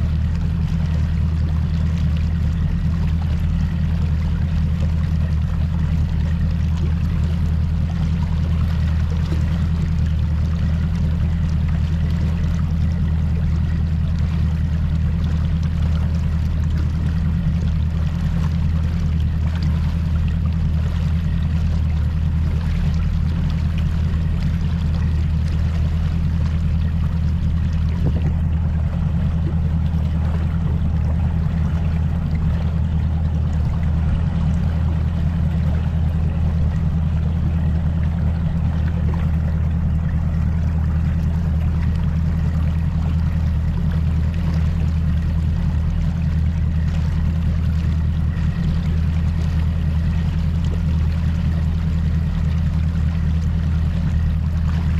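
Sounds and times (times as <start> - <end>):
outboard motor droning: 0.0 - 54.9
rushing water: 0.0 - 54.9
wind: 0.0 - 54.9.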